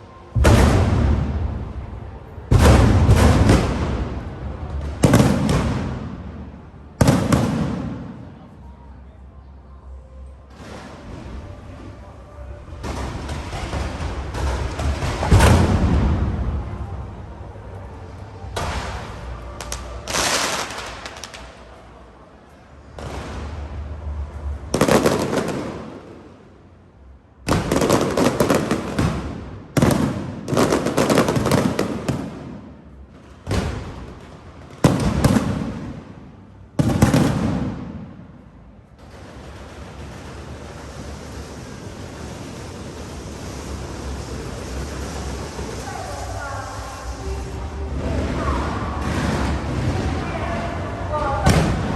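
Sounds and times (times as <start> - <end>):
steady background hiss: 0.0 - 51.9
fireworks booming and crackling: 0.3 - 8.6, 10.5 - 12.0, 12.6 - 17.5, 18.1 - 21.8, 22.8 - 26.7, 27.5 - 51.9.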